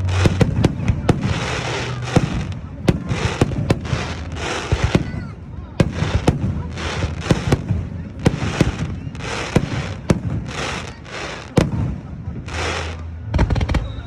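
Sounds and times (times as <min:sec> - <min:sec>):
hissing crackling bursts: 0:00.0 - 0:13.7
fireworks bangs: 0:00.0 - 0:14.0.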